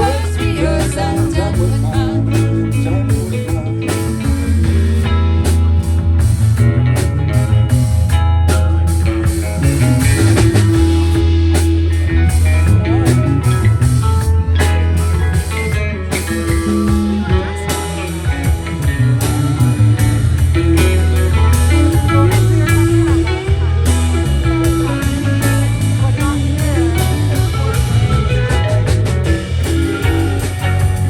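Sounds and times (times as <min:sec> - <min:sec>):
electric guitar lines: 0:00.0 - 0:31.0
live rock band playing: 0:00.0 - 0:31.0.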